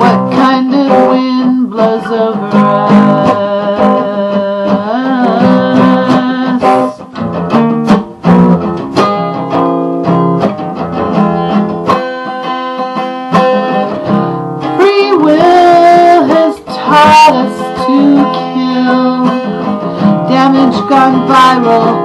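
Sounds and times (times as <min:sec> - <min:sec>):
guitar strumming chords: 0:00.0 - 0:22.0.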